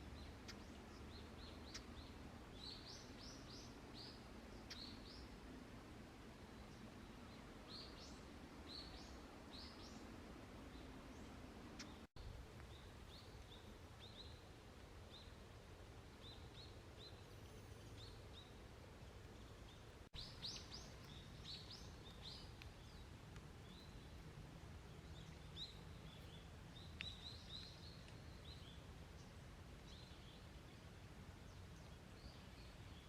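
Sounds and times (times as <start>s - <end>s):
faint birds chirping: 0.0s - 33.0s
soft background hiss: 0.0s - 33.0s.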